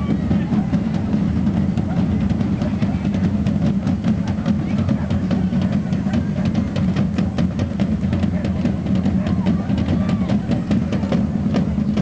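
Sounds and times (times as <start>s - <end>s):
drums beating quick rhythm: 0.0s - 12.0s.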